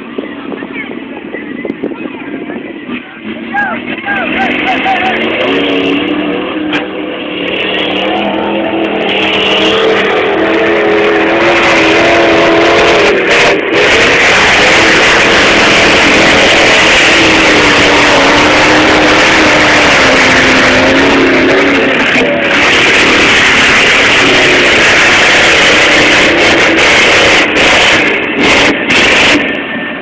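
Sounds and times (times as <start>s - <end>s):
car engine revving: 0.0s - 30.0s
loud rushing noise: 0.0s - 30.0s.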